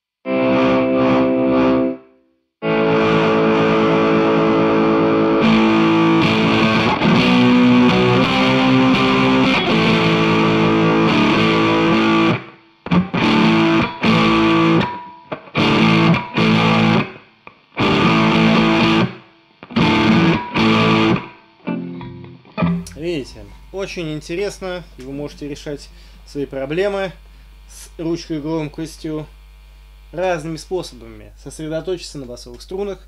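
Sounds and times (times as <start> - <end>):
distorted electric guitar chords: 0.3 - 30.4.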